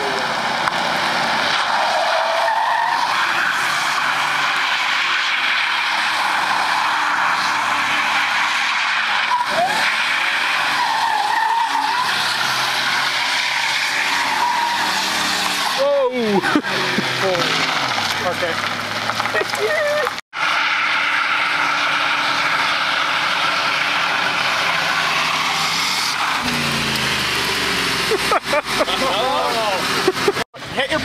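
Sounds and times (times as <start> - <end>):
car engine running hard: 0.0 - 2.0, 3.0 - 31.0
tyres screeching: 0.0 - 31.0.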